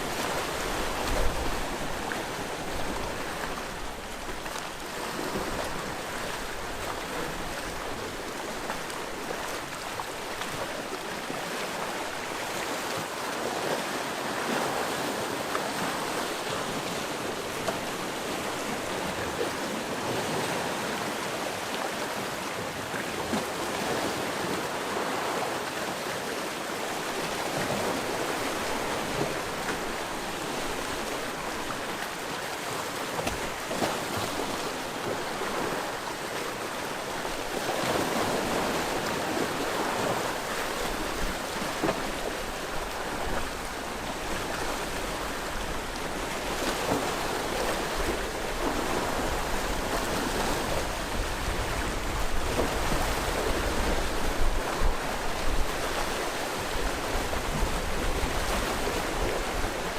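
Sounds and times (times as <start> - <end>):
sea waves on rocky shore: 0.0 - 59.9.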